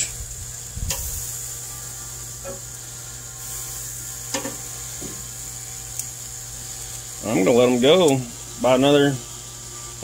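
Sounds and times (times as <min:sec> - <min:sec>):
chicken sizzling on charcoal grill: 0:00.0 - 0:10.0.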